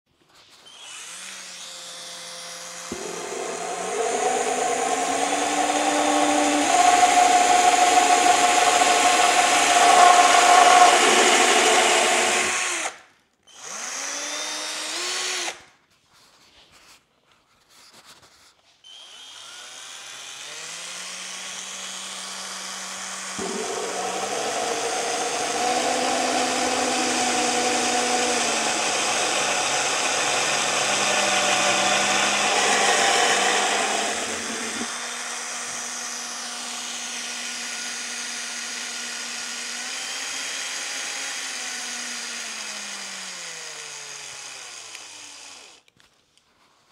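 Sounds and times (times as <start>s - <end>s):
power drill running: 0.6s - 15.6s, 18.9s - 45.9s.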